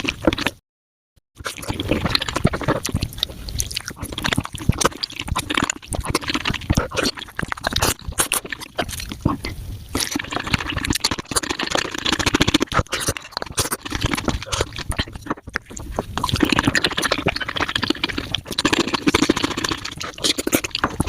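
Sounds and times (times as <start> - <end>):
slurping and chewing: 0.0 - 0.6, 1.4 - 21.0.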